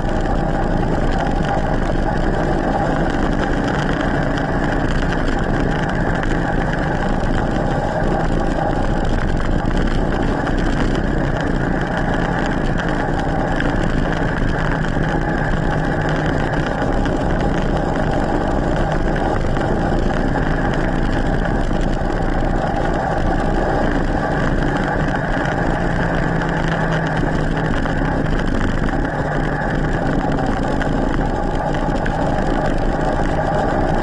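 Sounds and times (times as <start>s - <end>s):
tyres rolling on tarmac: 0.0s - 34.0s.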